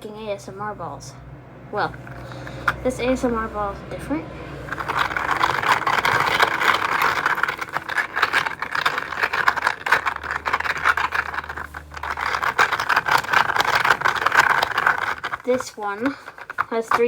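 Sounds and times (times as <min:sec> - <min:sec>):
plastic beads rattling in ball: 0:01.8 - 0:17.0.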